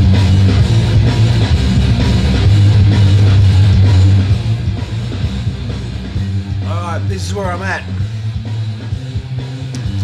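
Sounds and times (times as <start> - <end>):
loud rock music with guitar: 0.0 - 10.0.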